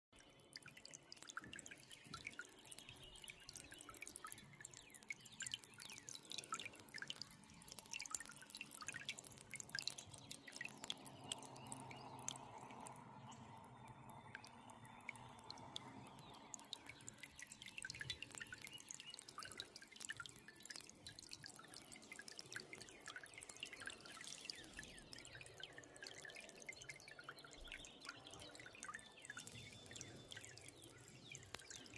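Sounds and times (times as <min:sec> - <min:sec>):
faint water dripping: 0:00.1 - 0:31.9.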